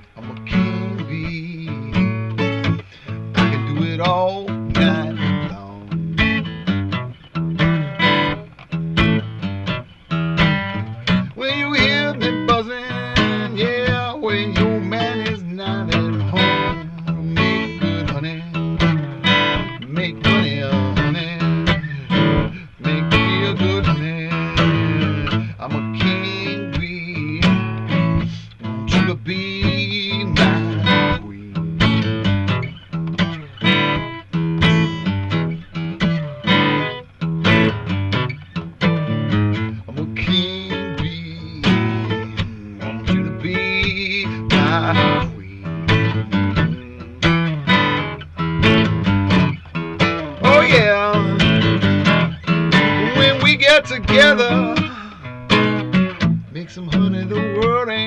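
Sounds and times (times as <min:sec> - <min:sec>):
blues guitar strummed and picked: 0:00.0 - 0:58.0.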